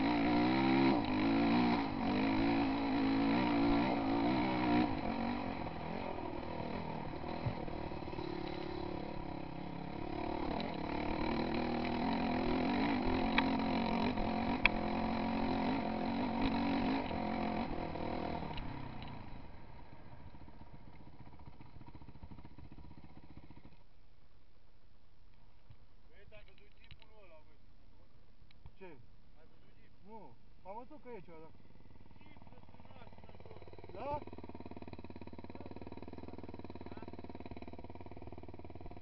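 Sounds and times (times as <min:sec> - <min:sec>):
dirt bike engine revving: 0:00.0 - 0:23.8, 0:31.2 - 0:39.0.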